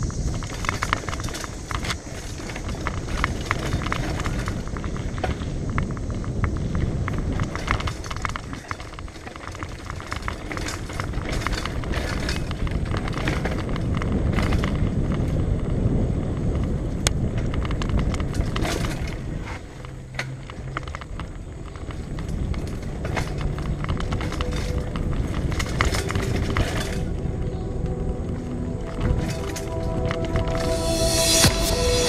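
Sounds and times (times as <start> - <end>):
bike clicks and rattles: 0.0 - 27.3
wind and tyre rumble: 0.0 - 31.9.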